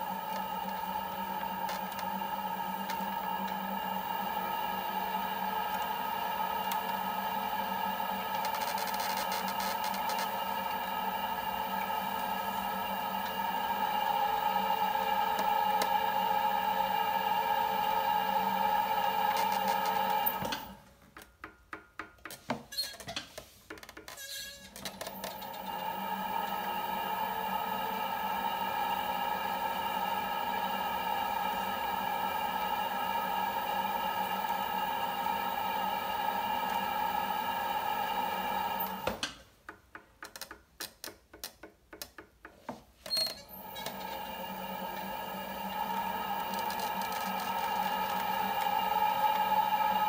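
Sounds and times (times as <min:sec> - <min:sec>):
potter's wheel motor hum: 0:00.0 - 0:20.8, 0:24.8 - 0:39.2, 0:43.5 - 0:50.0.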